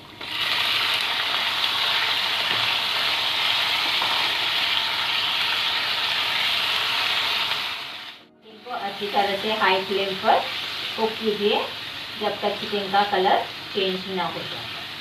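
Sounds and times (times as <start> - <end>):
chicken sizzling in hot oil: 0.0 - 8.2, 8.8 - 15.0.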